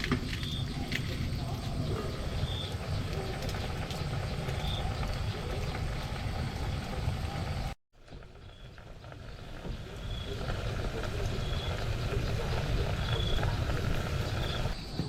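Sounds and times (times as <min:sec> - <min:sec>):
low rumbling wind: 0:00.0 - 0:15.0.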